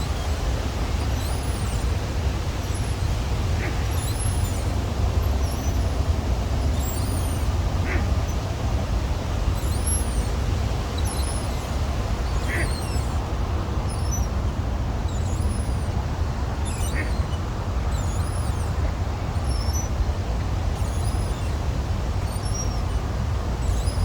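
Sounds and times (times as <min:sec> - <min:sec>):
small birds chirping: 0:00.0 - 0:08.5, 0:09.4 - 0:24.0
wind rumbling in forest: 0:00.0 - 0:24.0.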